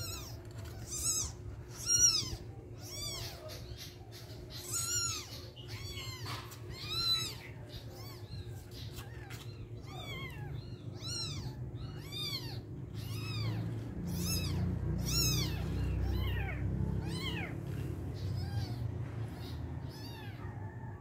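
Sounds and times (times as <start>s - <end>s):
kitten mewing: 0.0s - 3.9s, 4.5s - 20.5s.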